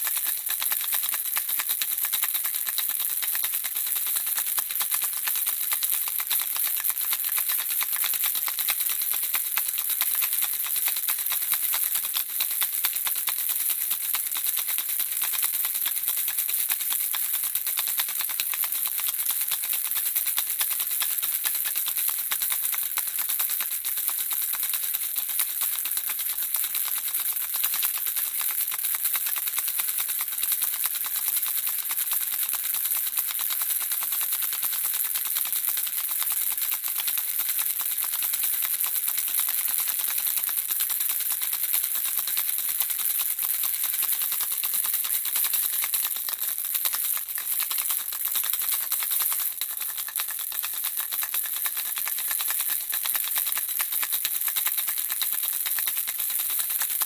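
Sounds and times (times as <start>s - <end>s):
baby rattle shaking: 0.0s - 57.0s.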